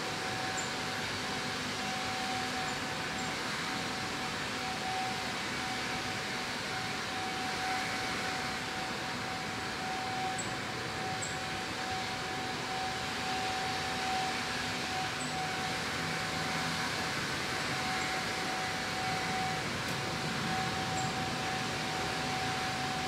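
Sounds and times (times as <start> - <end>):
steady hum and hiss: 0.0 - 23.0.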